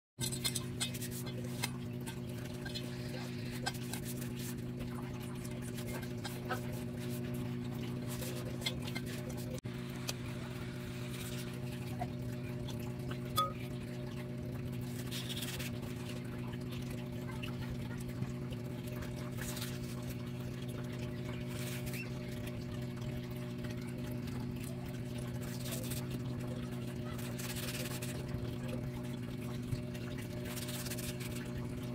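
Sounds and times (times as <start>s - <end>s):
low electrical hum: 0.2s - 31.9s.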